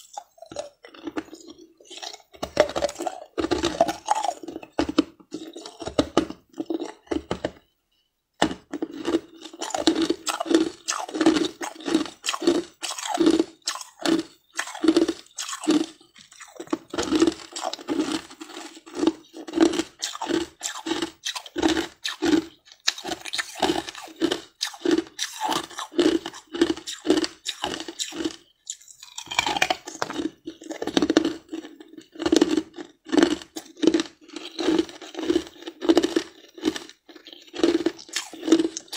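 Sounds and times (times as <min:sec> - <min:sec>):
ice being crunched and chewed: 0:00.0 - 0:07.6, 0:08.7 - 0:38.9.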